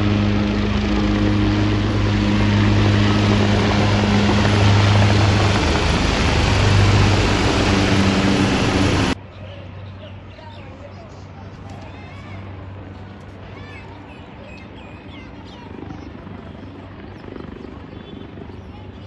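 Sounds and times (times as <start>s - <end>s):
helicopter rotor and engine rushing: 0.0s - 19.0s.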